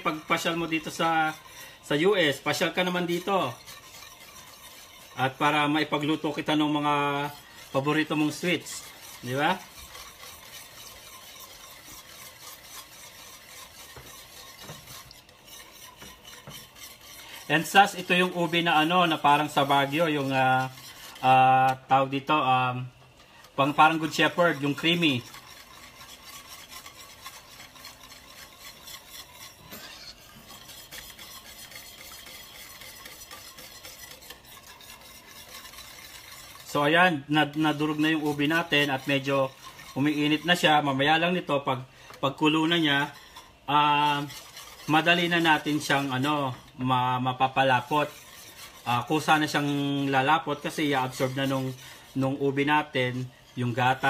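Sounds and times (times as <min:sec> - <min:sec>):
whisk swishing in metal pan: 0:00.0 - 0:54.0.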